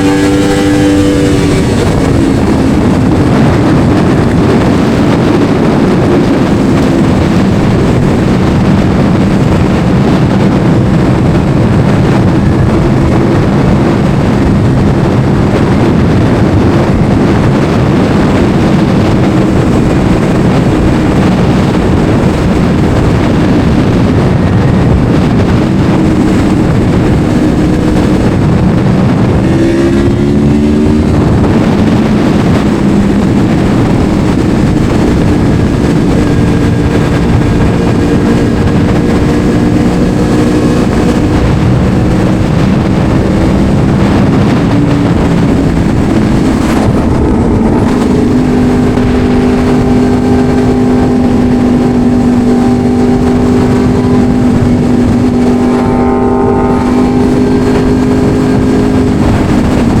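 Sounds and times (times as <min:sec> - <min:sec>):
motorcycle engine cruising: 0:00.0 - 1:00.0
rushing wind noise: 0:00.0 - 1:00.0.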